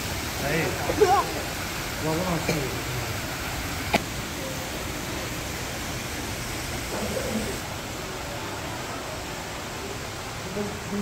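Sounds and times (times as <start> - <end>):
waterfall pouring into pond: 0.0 - 11.0.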